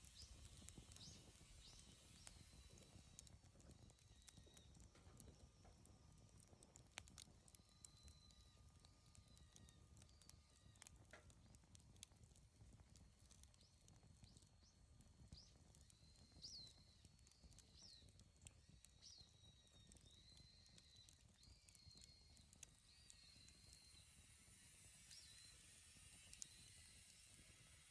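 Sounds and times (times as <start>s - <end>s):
bonfire crackling and popping: 0.0s - 27.9s.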